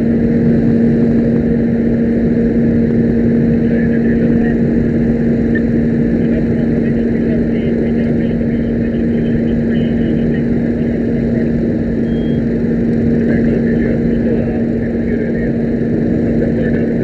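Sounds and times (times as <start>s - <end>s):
steady engine-like drone: 0.0s - 17.0s.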